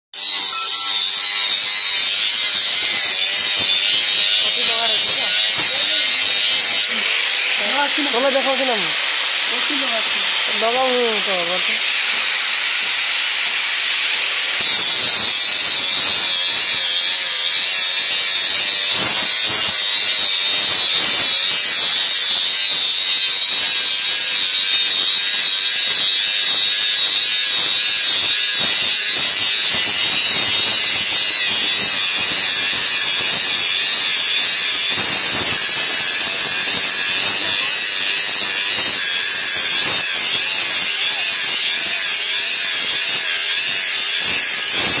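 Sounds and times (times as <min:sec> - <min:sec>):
angle grinder whining: 0:00.2 - 0:45.0
grinder disc grinding steel blade: 0:00.2 - 0:45.0.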